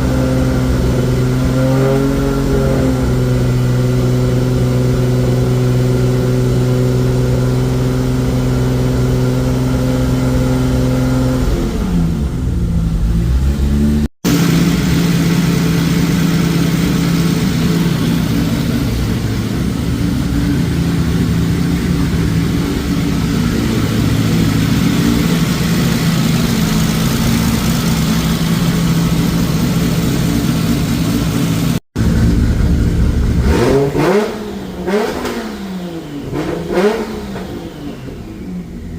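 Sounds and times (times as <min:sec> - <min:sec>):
car engine running: 0:00.0 - 0:38.9
engine revving: 0:00.0 - 0:38.9.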